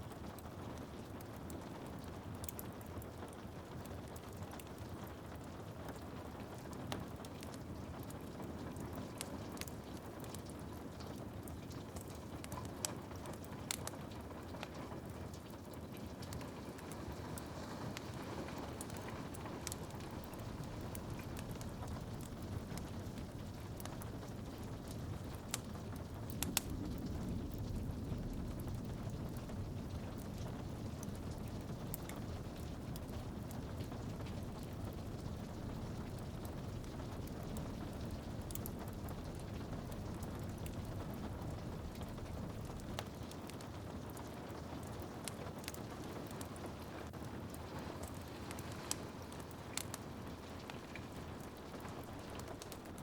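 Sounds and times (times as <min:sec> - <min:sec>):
rain on window glass: 0:00.0 - 0:53.0
wood fire crackling: 0:00.0 - 0:53.0.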